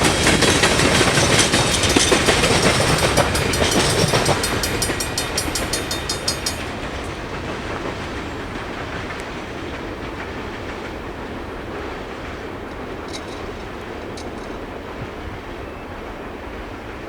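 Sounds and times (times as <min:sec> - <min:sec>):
train wheels clicking over rail joints: 0:00.0 - 0:15.4
train rumble: 0:00.0 - 0:17.0.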